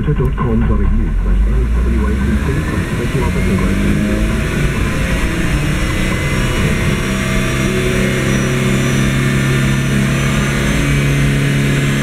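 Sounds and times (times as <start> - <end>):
car engine revving steadily: 0.0 - 12.0.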